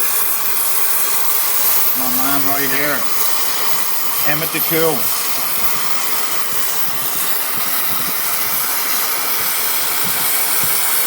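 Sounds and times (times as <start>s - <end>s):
loud steady hiss: 0.0s - 11.0s.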